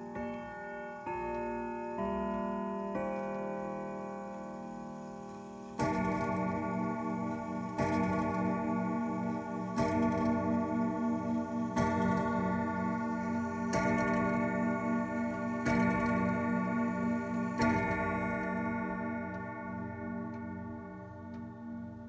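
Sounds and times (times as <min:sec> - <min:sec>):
clock chime rods striking: 0:00.0 - 0:22.0
clock ticking: 0:01.3 - 0:22.0.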